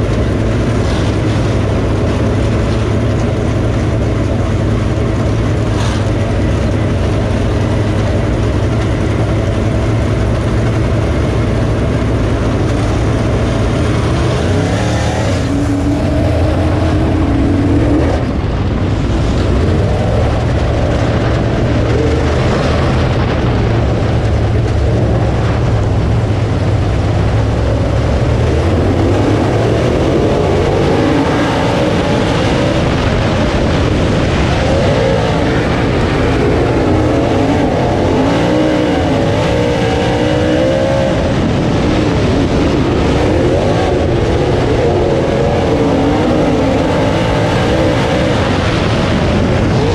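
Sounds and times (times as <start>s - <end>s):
race car engine droning: 0.0s - 49.9s.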